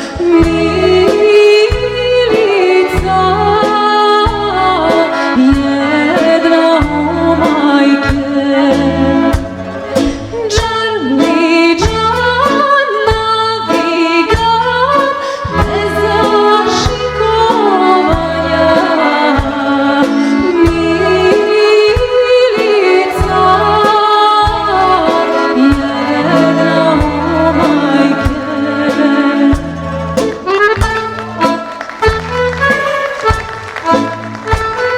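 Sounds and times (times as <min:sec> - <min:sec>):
woman singing folk song: 0:00.0 - 0:30.5
instrumental accompaniment: 0:00.0 - 0:34.9.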